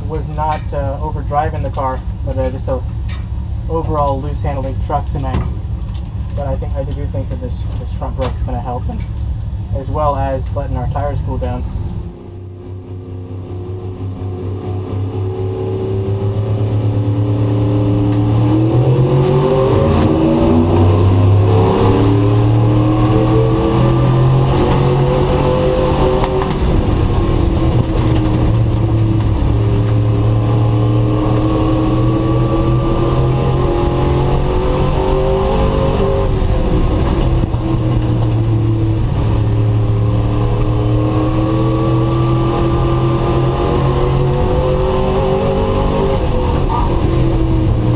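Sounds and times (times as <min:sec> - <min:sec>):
race truck engine revving: 0:06.3 - 0:47.9.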